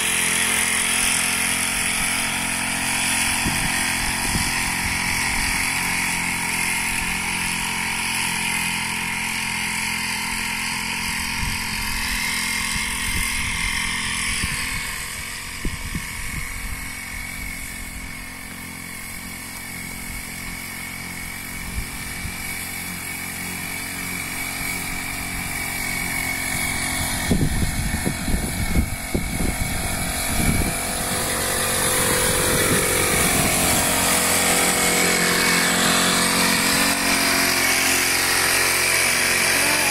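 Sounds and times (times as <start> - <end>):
crop sprayer engine running: 0.0 - 39.9.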